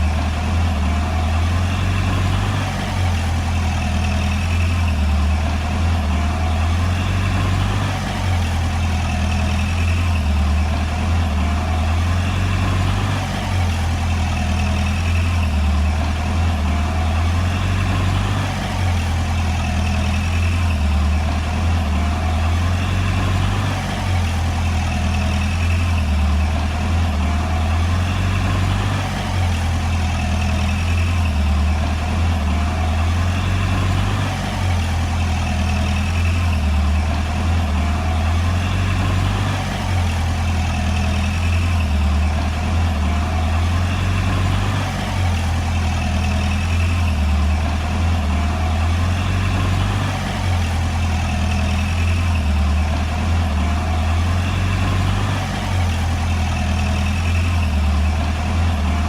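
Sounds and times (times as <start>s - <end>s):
bulldozer diesel engine droning: 0.0s - 59.0s.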